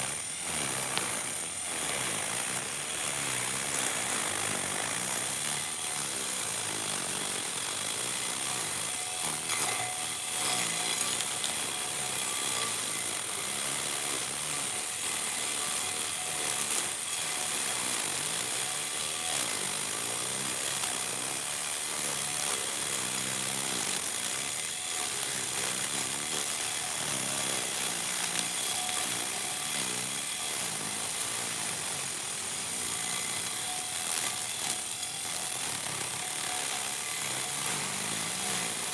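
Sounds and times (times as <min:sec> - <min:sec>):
small electric motor whirring: 0:00.0 - 0:38.9.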